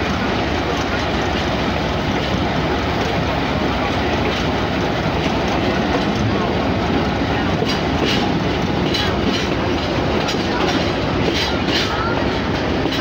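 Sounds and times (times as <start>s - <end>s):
train rumbling: 0.0s - 13.0s
wheels clacking over rails: 0.0s - 13.0s.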